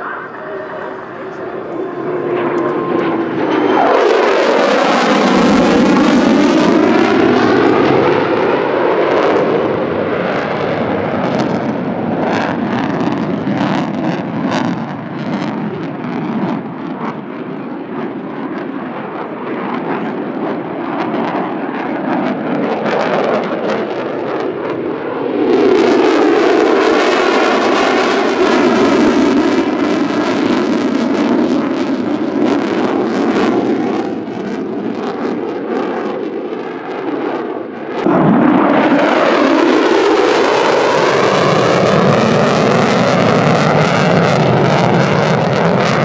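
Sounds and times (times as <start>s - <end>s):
jet engine in afterburner: 0.0s - 46.0s.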